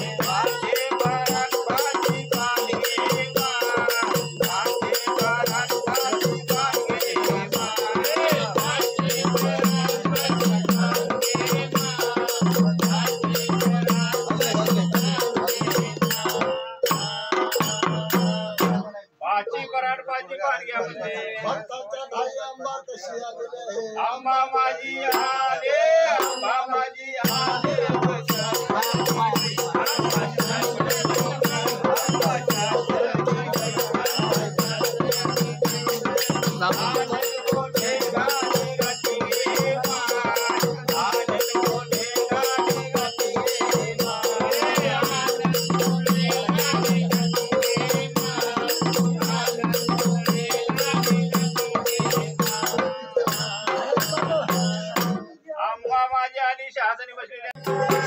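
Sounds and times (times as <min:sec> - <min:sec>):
jingling rattling percussion: 0:00.0 - 0:18.9, 0:25.1 - 0:55.4, 0:57.6 - 0:58.0.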